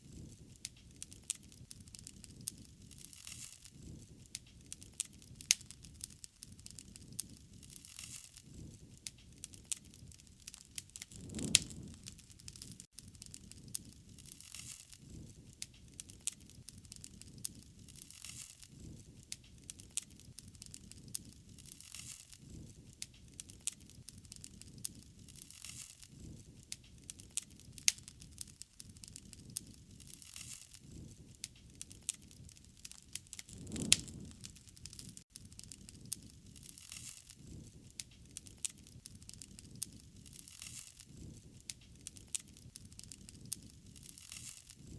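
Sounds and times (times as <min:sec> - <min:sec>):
wood fire crackling and popping: 0:00.1 - 0:44.9.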